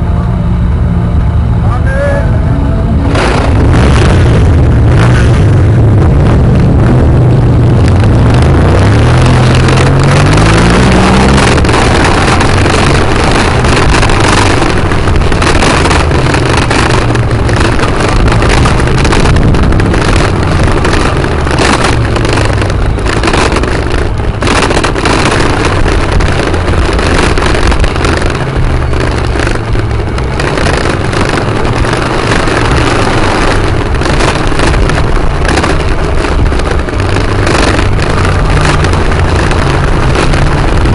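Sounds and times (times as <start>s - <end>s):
wind noise on microphone: 0.0s - 40.9s
motorcycle engine pulling away: 2.8s - 40.9s.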